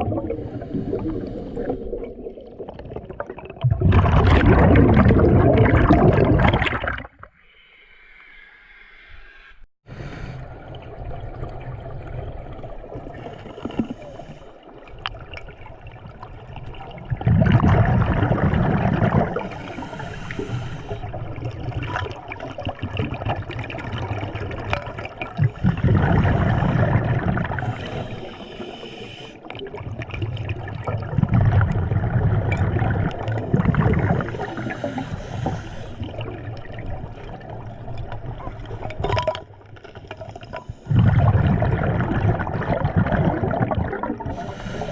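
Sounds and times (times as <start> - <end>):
water bubbling and gurgling: 0.0 - 7.5, 9.9 - 44.9.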